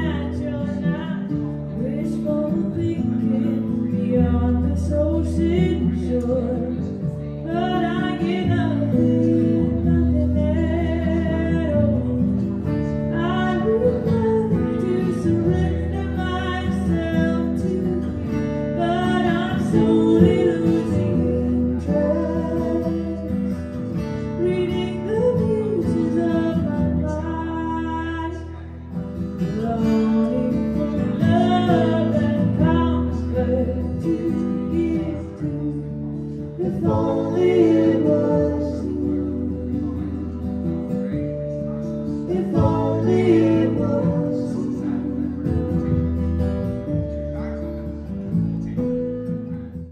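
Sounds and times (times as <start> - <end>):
woman singing: 0.0 - 28.8, 29.4 - 41.2, 42.1 - 45.9
acoustic guitars strummed: 0.0 - 49.9.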